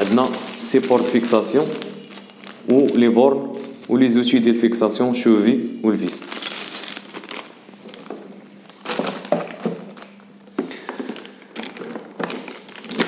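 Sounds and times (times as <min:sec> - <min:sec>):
plastic bags crinkling: 0:00.0 - 0:04.4, 0:06.0 - 0:13.0.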